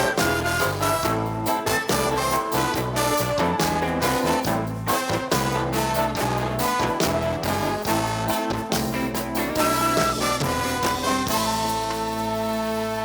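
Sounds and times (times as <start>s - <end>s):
music with punchy beat: 0.0s - 12.8s.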